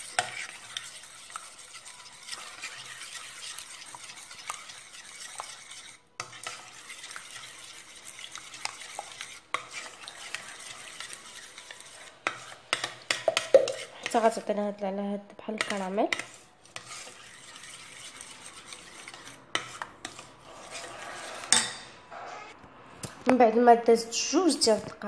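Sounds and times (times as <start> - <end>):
scratchy stirring in a metal cup: 0.0 - 14.5, 15.5 - 22.6.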